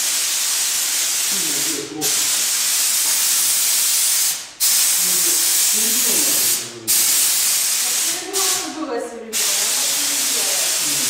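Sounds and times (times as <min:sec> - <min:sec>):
paint sprayer hissing: 0:00.0 - 0:11.0.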